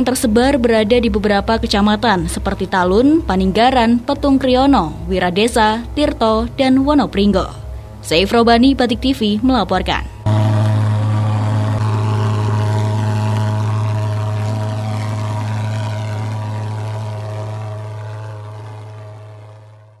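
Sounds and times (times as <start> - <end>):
pulse-jet fogging machine droning: 0.0 - 20.0.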